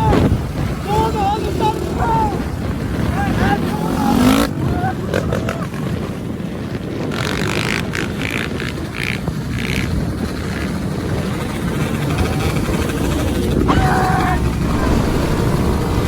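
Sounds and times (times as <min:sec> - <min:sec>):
motorcycle engines rumbling: 0:00.0 - 0:16.0.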